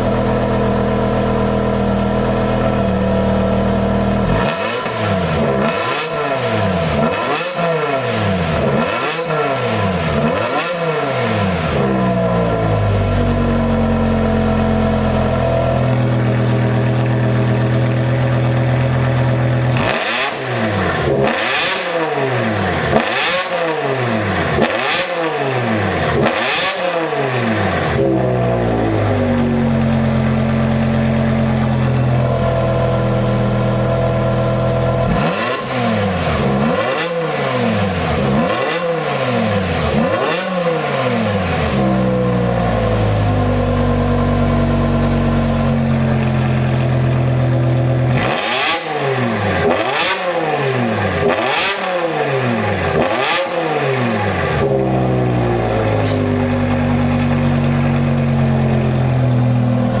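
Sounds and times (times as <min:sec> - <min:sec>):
car exhaust idling and revving: 0:00.0 - 1:00.0.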